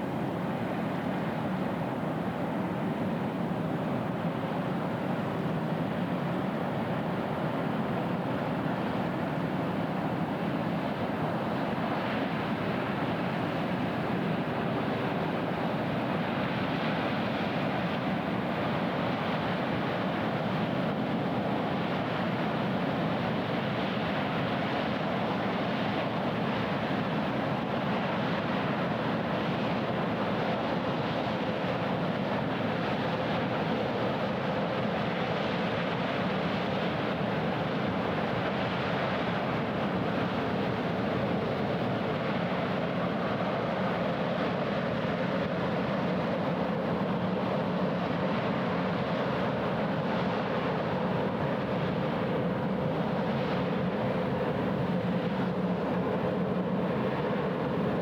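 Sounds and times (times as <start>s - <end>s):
wind: 0.0s - 58.0s.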